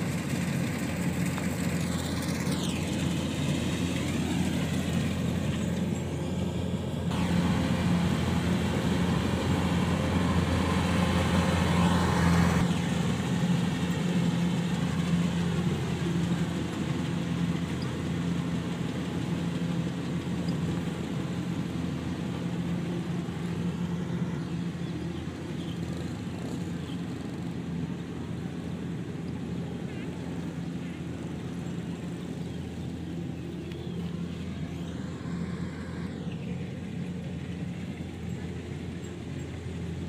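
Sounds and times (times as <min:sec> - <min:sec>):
diesel engine hum: 0:00.0 - 0:40.0.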